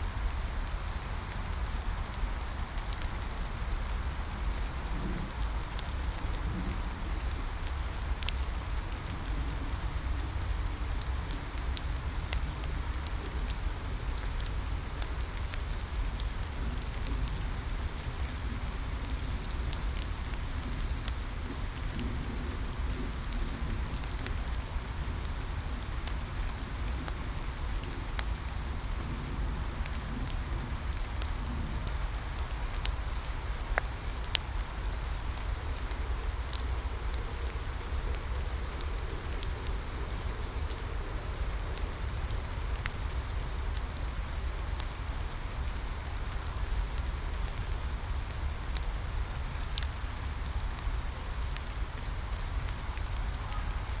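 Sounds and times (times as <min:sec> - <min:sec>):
steady rain: 0:00.0 - 0:54.0
wood fire crackling: 0:00.0 - 0:54.0.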